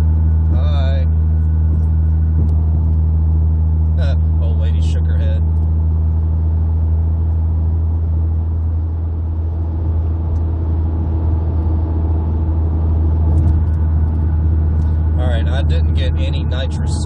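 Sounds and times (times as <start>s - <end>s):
car engine cruising: 0.0s - 17.0s
road noise: 0.0s - 17.0s.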